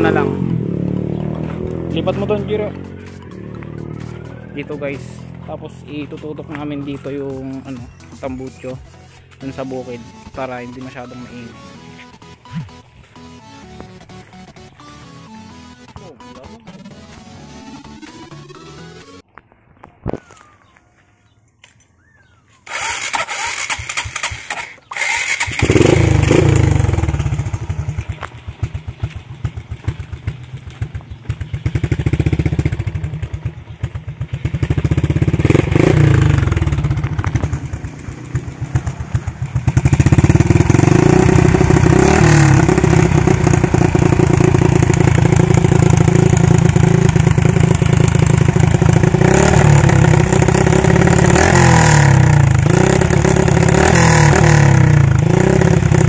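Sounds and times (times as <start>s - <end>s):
scooter engine revving: 0.0s - 19.2s, 22.7s - 56.0s.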